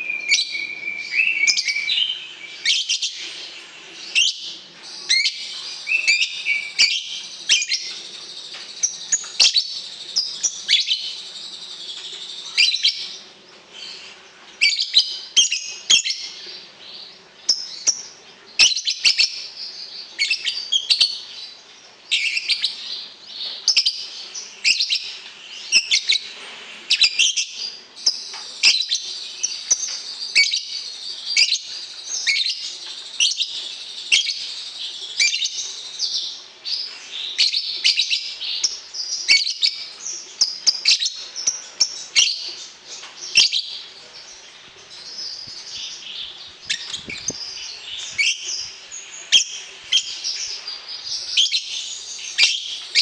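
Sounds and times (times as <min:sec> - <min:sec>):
songbirds chirping and trilling: 0:00.0 - 0:53.0.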